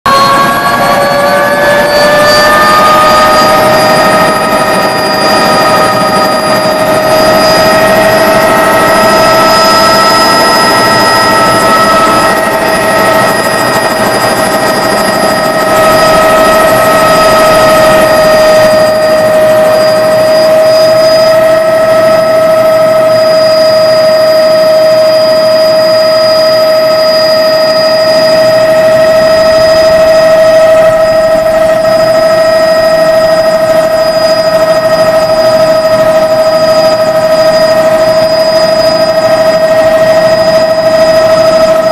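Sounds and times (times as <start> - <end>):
helicopter turbine and rotor: 0.1 - 41.9.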